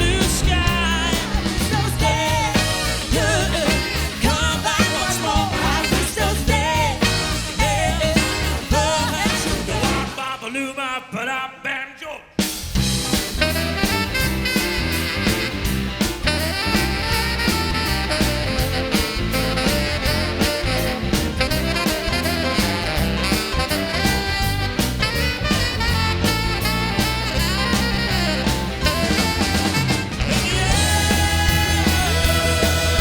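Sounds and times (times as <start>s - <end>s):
saxophone: 0.0s - 10.4s, 12.8s - 33.0s
upbeat band music: 0.0s - 33.0s.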